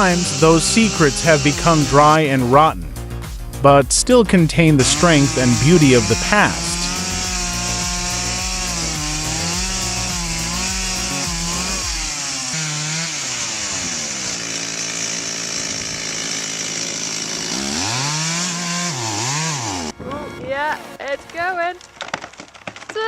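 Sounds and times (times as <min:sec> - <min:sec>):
chainsaw cutting into tree: 0:00.0 - 0:02.7, 0:04.6 - 0:19.9, 0:21.8 - 0:23.0.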